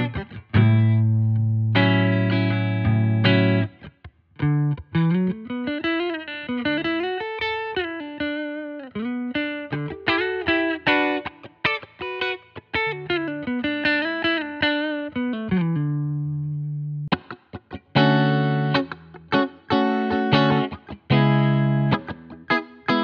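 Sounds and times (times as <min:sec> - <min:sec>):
electric guitar chords: 0:00.0 - 0:23.0
electric guitar single-note melody: 0:00.0 - 0:23.0.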